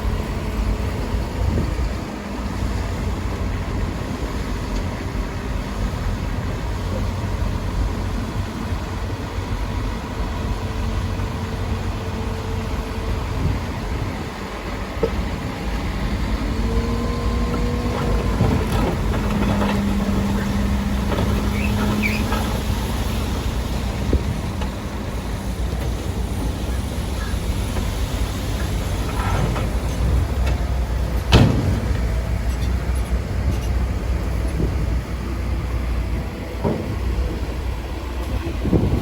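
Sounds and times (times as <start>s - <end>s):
diesel machinery rumbling: 0.0s - 39.0s.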